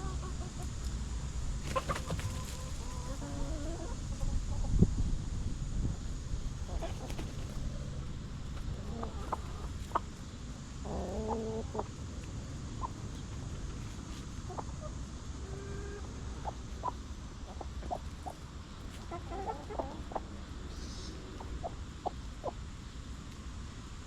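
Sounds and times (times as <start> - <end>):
hens clucking: 0.0 - 5.1, 6.5 - 23.0
low background hum: 0.0 - 24.0.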